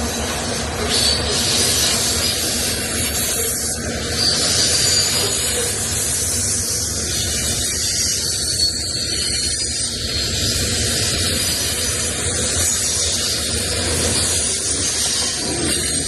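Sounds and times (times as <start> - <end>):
freight train wheels rolling on rails: 0.0 - 16.0.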